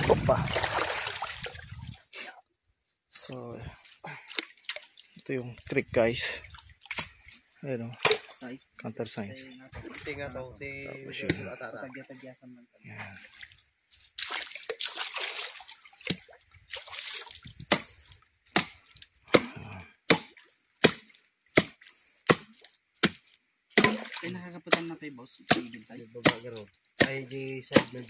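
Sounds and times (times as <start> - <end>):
water splashing and sloshing: 0.0 - 2.4, 3.1 - 28.0.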